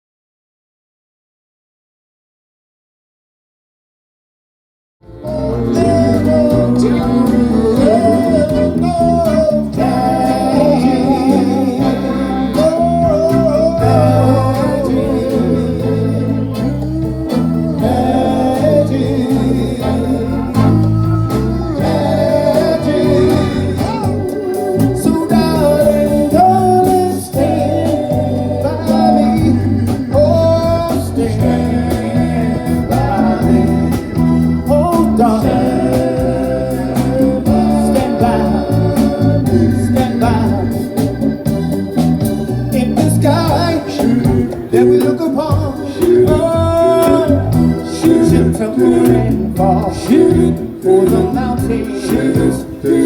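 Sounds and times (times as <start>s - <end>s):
guitar: 5.1s - 53.0s
person singing: 5.1s - 53.0s
rhythmic bass line: 5.1s - 53.0s.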